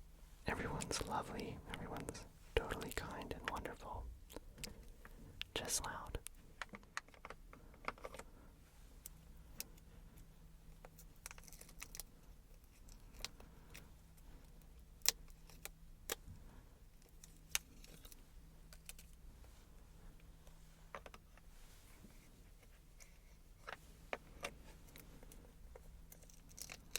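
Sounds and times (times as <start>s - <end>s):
faint low hum: 0.0s - 26.9s.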